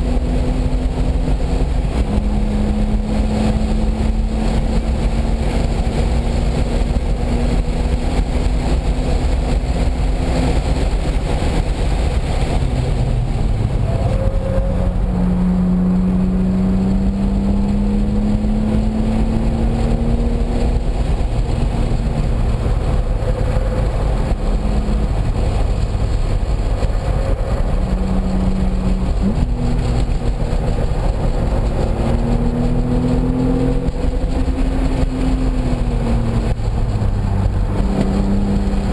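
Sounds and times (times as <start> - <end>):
race car engine at speed: 0.0 - 38.9
wind and road noise: 0.0 - 38.9.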